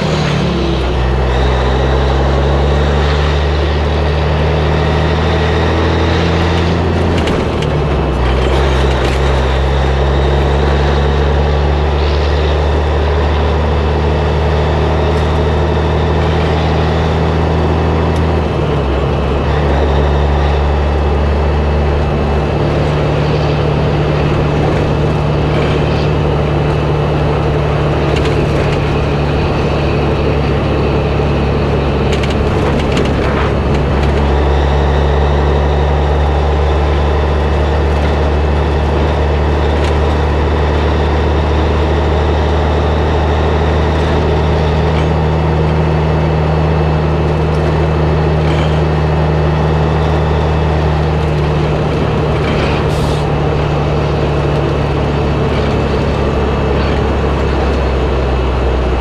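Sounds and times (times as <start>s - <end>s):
diesel truck engine: 0.0s - 59.0s
road noise: 0.0s - 59.0s
trailer knocking and rattling: 0.0s - 59.0s.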